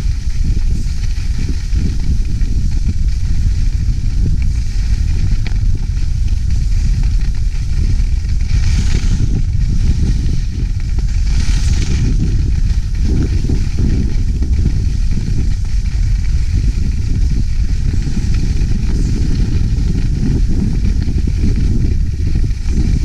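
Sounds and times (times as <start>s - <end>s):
skis scraping on snow: 0.0s - 23.0s
wind buffeting microphone: 0.0s - 23.0s.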